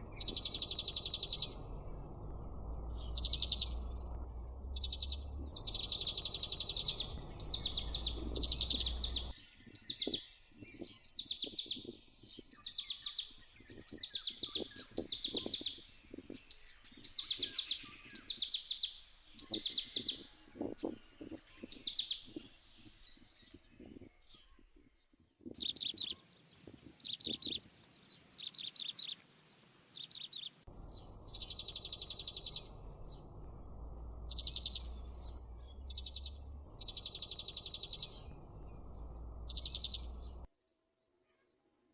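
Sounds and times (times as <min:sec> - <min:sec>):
nestling birds chirping: 0:00.0 - 0:40.5.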